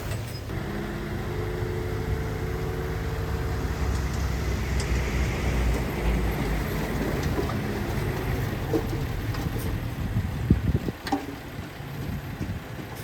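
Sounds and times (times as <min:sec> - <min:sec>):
diesel machinery engine rumble: 0:00.0 - 0:13.0.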